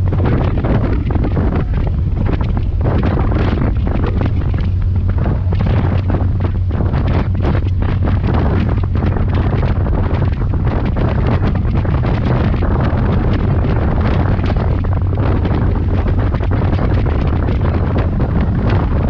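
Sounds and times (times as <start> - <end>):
boat engine droning: 0.0 - 19.0
wind buffeting microphone: 0.0 - 19.0.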